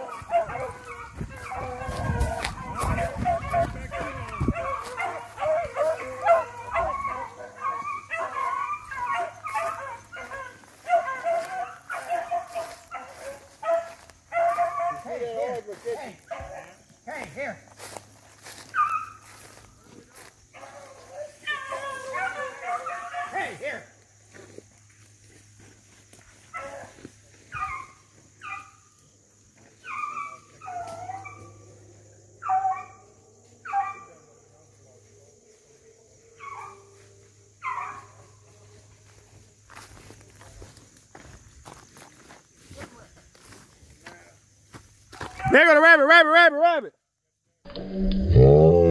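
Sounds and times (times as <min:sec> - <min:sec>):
hounds baying: 0:00.0 - 0:24.5, 0:25.8 - 0:41.3, 0:45.1 - 0:46.4.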